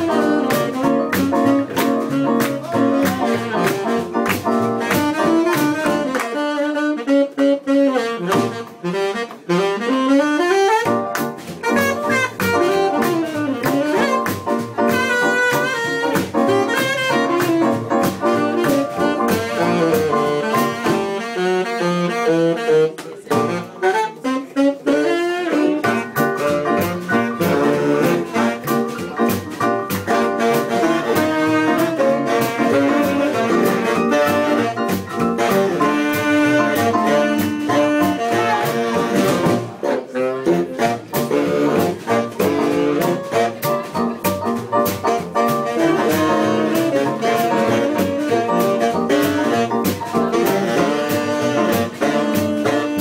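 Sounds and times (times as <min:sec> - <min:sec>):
clarinet: 0:00.0 - 0:53.0
drums keeping a beat: 0:00.0 - 0:53.0
piano: 0:00.0 - 0:53.0
saxophones: 0:00.0 - 0:53.0.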